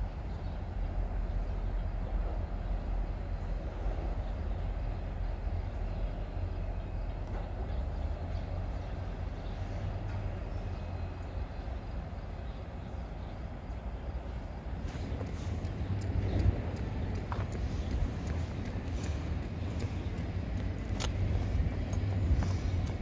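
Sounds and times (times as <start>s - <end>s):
distant train rumbling: 0.0s - 23.0s.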